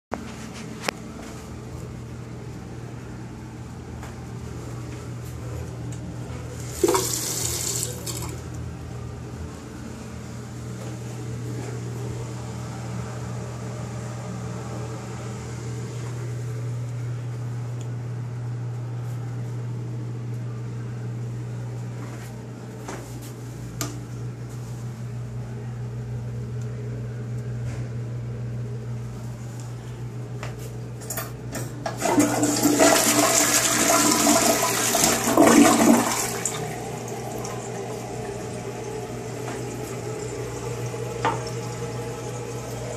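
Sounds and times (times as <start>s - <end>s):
low hum with hiss: 0.1s - 42.9s.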